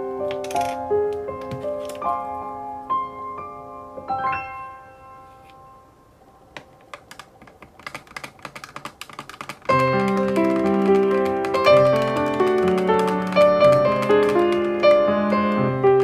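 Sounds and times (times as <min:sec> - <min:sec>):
piano background music: 0:00.0 - 0:07.3, 0:09.2 - 0:16.0.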